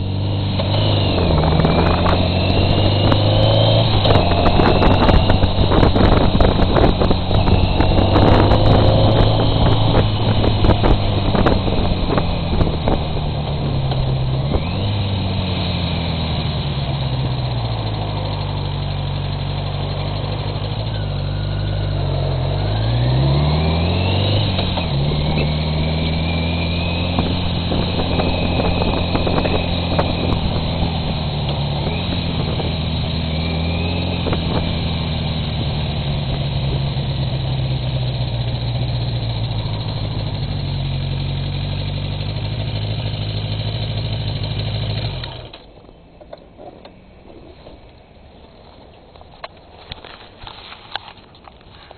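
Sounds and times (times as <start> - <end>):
motorcycle engine running: 0.0 - 50.5.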